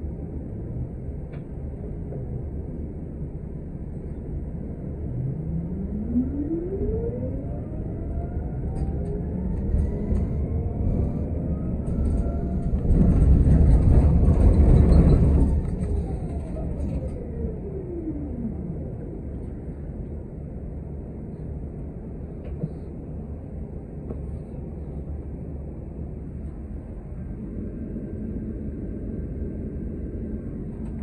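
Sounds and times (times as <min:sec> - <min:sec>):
bus drivetrain whine: 0:00.0 - 0:31.0.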